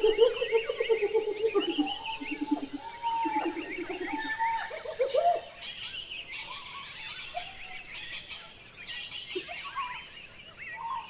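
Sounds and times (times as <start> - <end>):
rising whistled bird calls: 0.0 - 10.1
birds chirping and twittering: 0.0 - 11.0.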